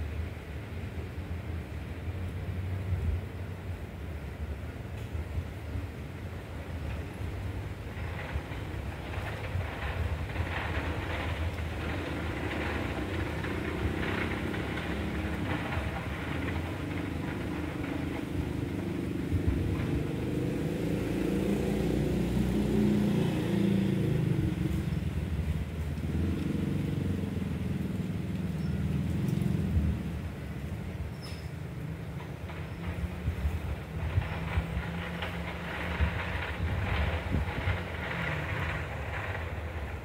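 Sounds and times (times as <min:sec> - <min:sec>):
vehicle engine rumbling: 0:00.1 - 0:40.0.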